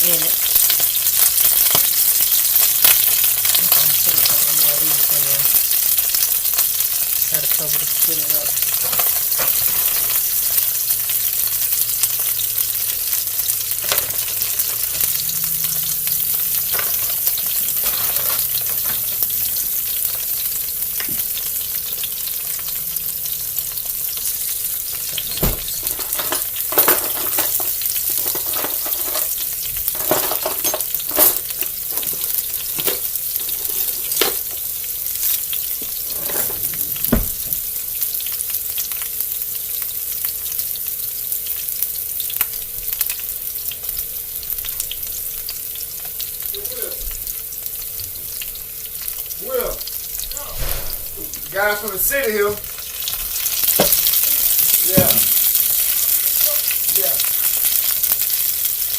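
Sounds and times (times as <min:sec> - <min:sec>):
food sizzling in oil: 0:00.0 - 0:58.9.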